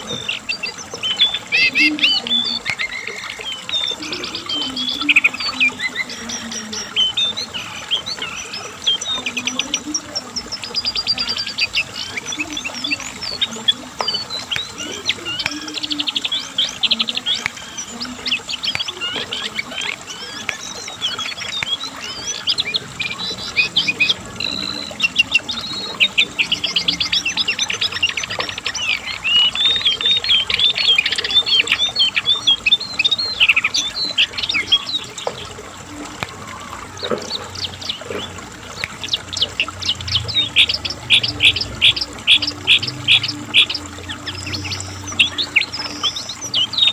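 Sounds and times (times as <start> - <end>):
bird singing trills and whistles: 0.0 - 46.9.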